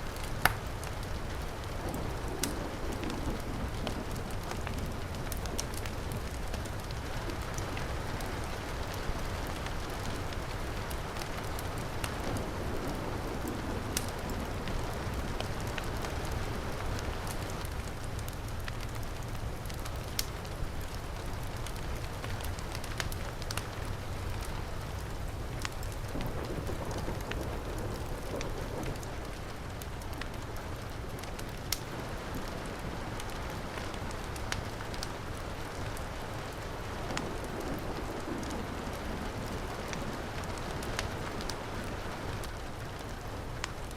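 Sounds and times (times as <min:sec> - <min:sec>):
fireplace crackling: 0:00.0 - 0:43.9
heavy rain falling: 0:00.0 - 0:43.9.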